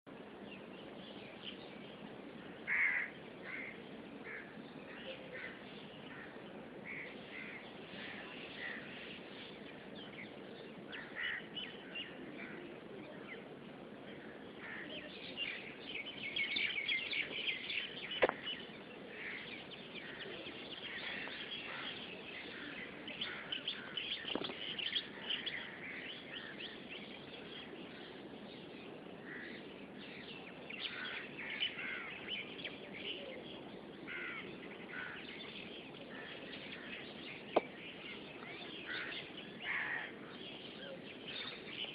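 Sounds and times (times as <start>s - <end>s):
birds chirping: 0.1s - 41.9s.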